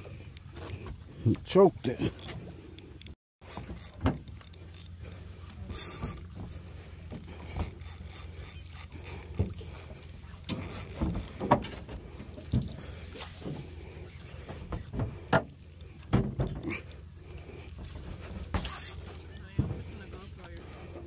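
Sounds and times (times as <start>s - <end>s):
fishing reel gear whir: 2.1s - 16.0s, 16.6s - 19.5s.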